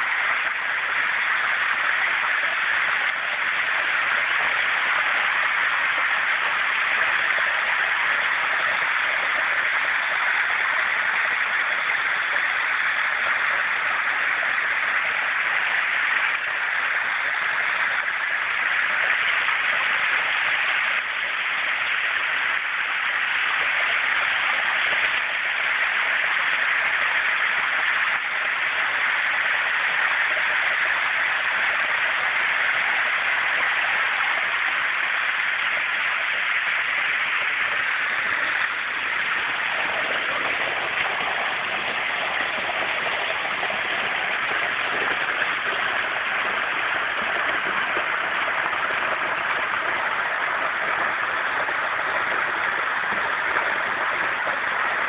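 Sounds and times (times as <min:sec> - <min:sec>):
waterfall splashing: 0:00.0 - 0:55.0.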